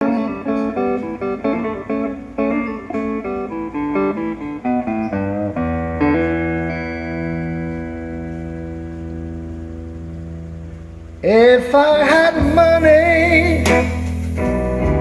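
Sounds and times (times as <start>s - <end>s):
guitar song through a speaker: 0.0s - 15.0s.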